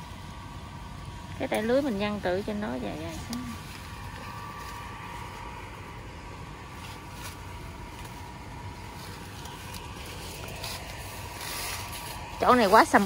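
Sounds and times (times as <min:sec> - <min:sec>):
faint whine: 0:00.0 - 0:13.0
low motor hum: 0:00.0 - 0:13.0.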